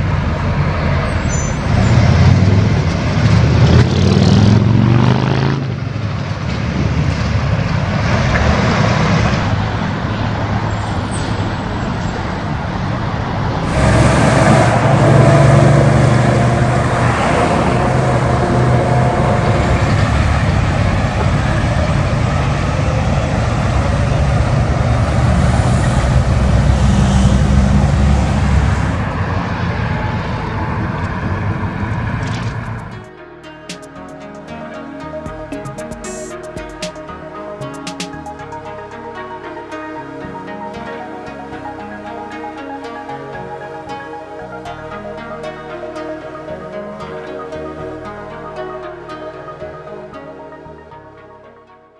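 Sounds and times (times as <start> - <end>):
trucks and traffic passing: 0.0 - 51.9.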